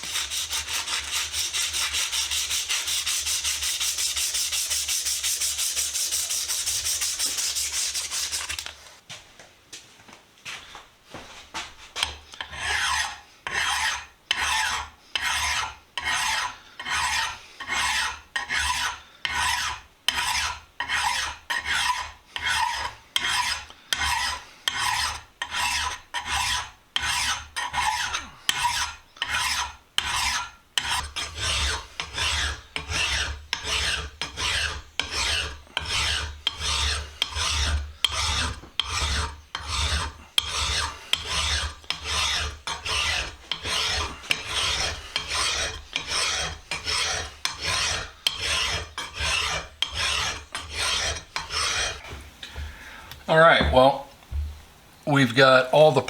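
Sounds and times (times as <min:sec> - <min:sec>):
hand file rasping on metal: 0:00.0 - 0:08.7, 0:12.0 - 0:52.9.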